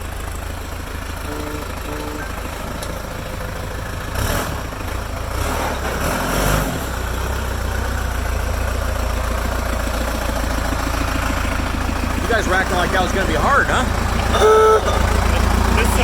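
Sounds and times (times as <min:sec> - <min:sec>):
engines idling with low rumble: 0:00.0 - 0:16.0.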